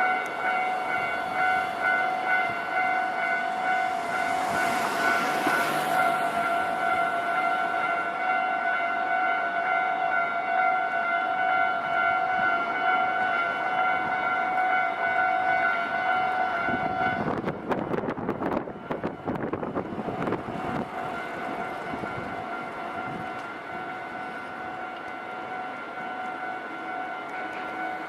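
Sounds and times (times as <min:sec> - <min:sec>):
level crossing warning bell: 0:00.0 - 0:28.0.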